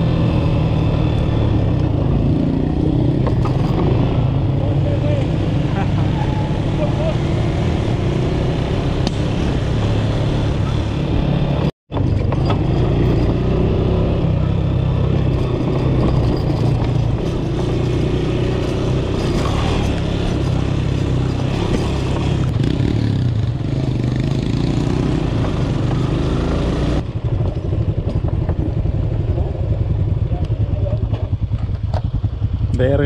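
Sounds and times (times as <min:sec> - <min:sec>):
rattle over dirt track: 0:00.0 - 0:05.4, 0:11.4 - 0:33.0
motorcycle engine running: 0:00.0 - 0:33.0
wind and road noise: 0:00.0 - 0:33.0.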